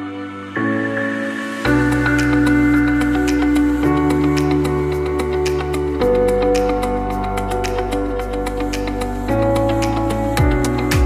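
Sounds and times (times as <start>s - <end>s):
synth chords: 0.0s - 11.0s
bass: 1.6s - 11.0s.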